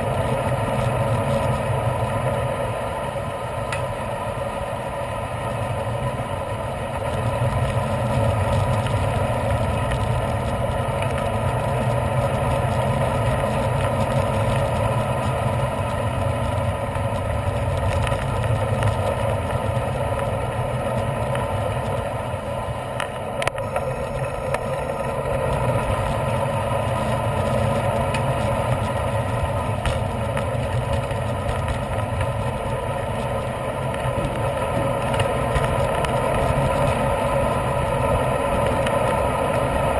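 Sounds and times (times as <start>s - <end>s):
bicycle tyre noise: 0.0s - 39.9s.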